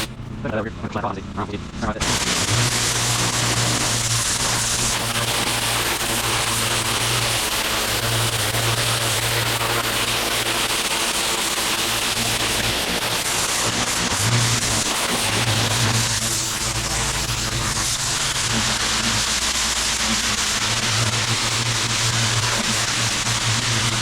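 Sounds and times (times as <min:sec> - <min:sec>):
pressure washer water jet hissing: 0:02.0 - 0:24.0.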